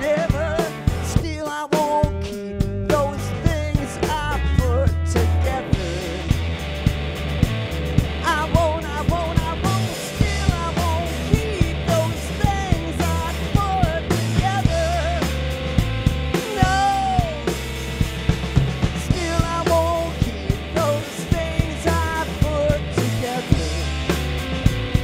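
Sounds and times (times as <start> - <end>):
bass line: 0.0 - 25.0
electric guitar: 0.0 - 25.0
drum beat: 3.5 - 25.0.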